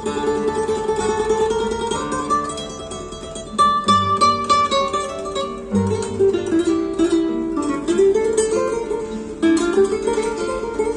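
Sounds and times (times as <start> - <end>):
plucked-string music on loudspeakers: 0.0 - 10.9.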